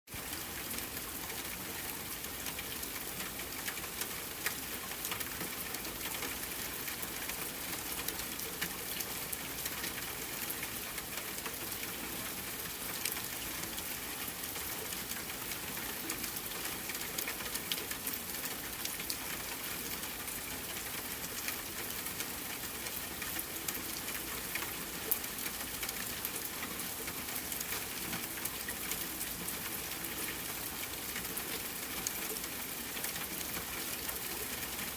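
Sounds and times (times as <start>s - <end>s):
rain pattering on a window: 0.1s - 34.9s.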